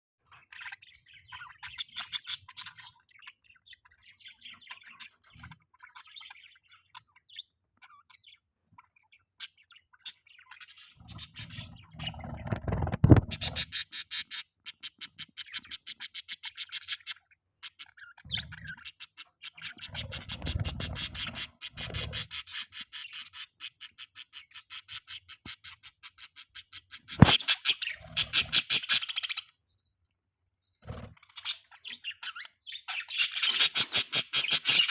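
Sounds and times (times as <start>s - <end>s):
budgerigars chirping and chattering: 0.2s - 29.6s, 30.8s - 34.9s.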